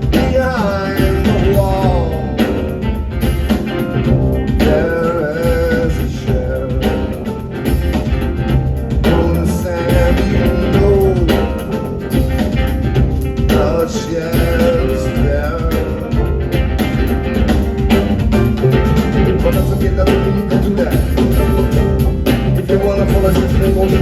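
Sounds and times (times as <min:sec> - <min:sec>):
live band playing: 0:00.0 - 0:24.0.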